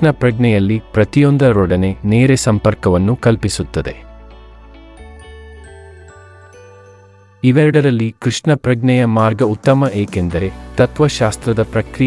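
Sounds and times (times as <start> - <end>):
soft music with sustained notes: 0.0 - 12.0.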